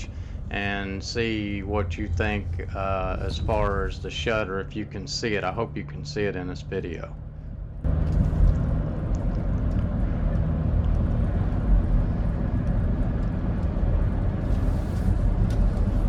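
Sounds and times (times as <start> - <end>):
engine and road noise in cabin: 0.0 - 16.0.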